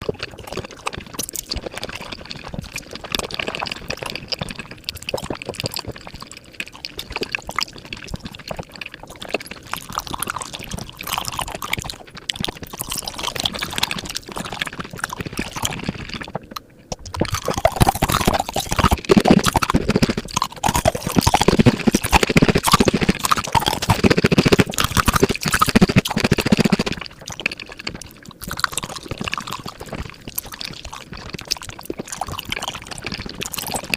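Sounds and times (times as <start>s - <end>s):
sped-up wet chewing and slurping: 0.0s - 33.9s.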